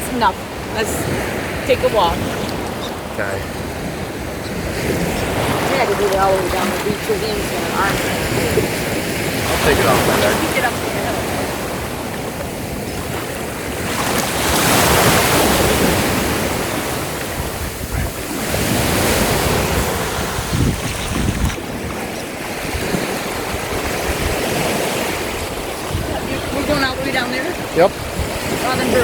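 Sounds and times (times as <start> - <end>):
surf washing onto beach: 0.0 - 29.0
wind rumbling on microphone: 0.0 - 29.0.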